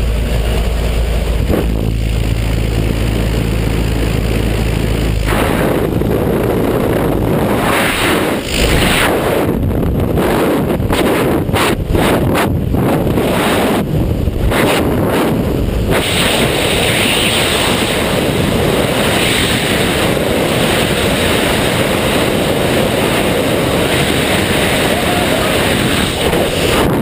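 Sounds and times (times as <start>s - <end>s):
wind rushing over camera microphone: 0.0s - 27.0s.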